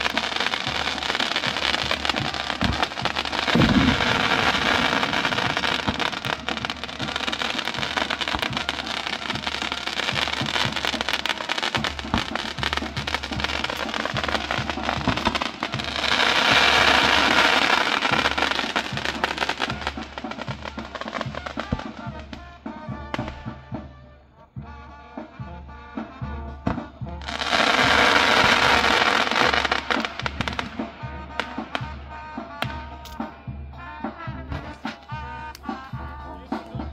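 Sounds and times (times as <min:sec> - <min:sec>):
fireworks hissing and crackling: 0:00.0 - 0:23.7, 0:26.6 - 0:33.4
music: 0:00.0 - 0:36.9.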